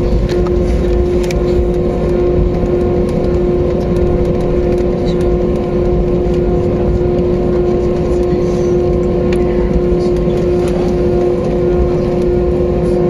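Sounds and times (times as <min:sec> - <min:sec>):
jet engines humming in cabin: 0:00.0 - 0:13.0.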